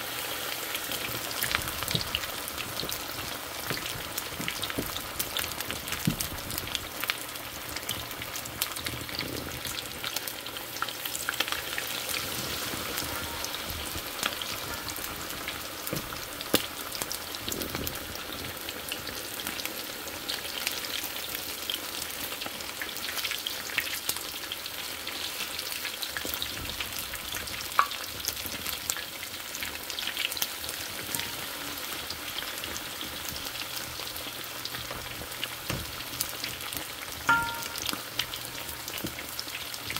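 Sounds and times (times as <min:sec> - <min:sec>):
chicken frying in oil: 0:00.0 - 0:39.9.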